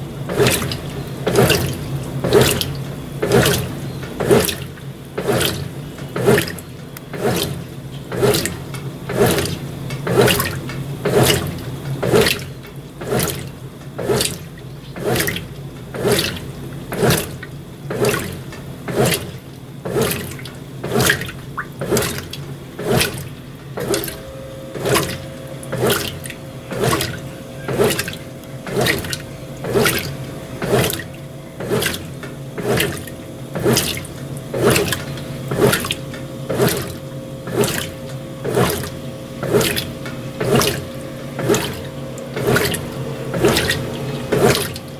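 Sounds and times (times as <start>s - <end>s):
washing machine motor hum: 0.0s - 44.9s
washing machine water sloshing: 0.0s - 44.9s.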